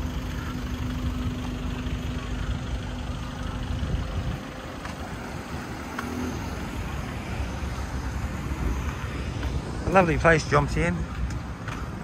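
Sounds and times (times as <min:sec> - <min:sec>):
cars and trucks passing: 0:00.0 - 0:12.0.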